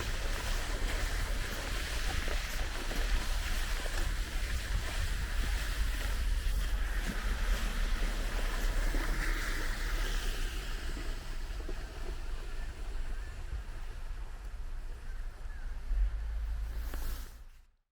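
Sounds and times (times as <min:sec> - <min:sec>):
wind buffeting microphone: 0:00.0 - 0:16.9
steady outdoor hiss: 0:00.0 - 0:17.5.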